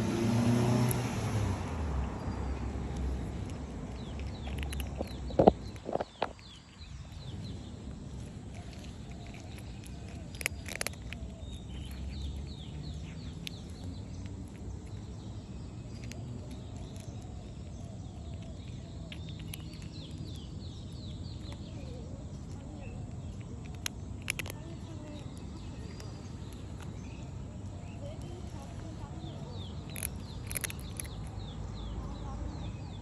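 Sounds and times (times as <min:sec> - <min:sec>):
low outdoor rumble: 0:00.0 - 0:33.0
small birds chirping: 0:00.0 - 0:33.0.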